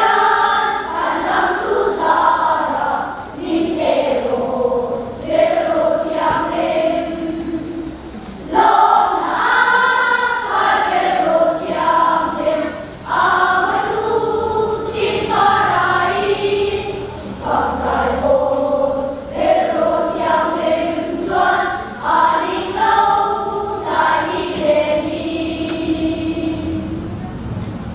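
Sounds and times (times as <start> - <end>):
children's choir singing: 0.0 - 27.9.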